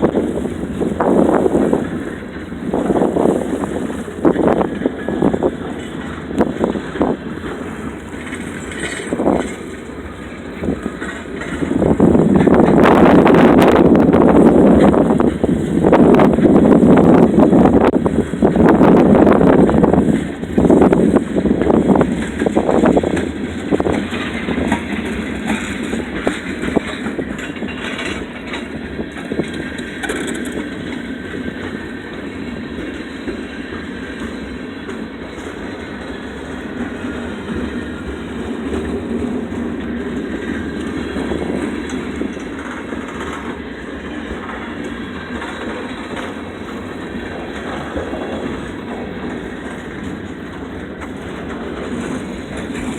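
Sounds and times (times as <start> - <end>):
freight train wheels clicking: 0.0 - 52.9.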